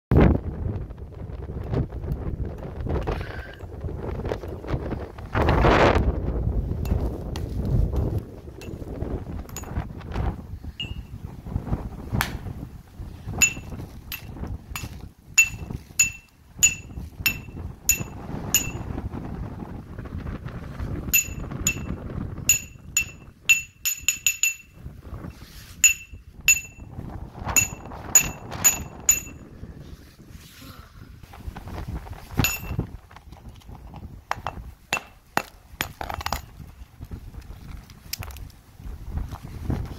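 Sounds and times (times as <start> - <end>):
low wind rumble: 0.1 - 39.9.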